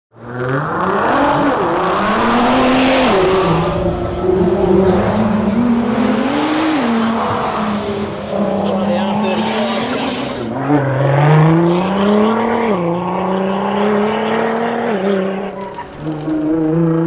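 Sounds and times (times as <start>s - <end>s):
car engine accelerating hard: 0.2s - 17.0s.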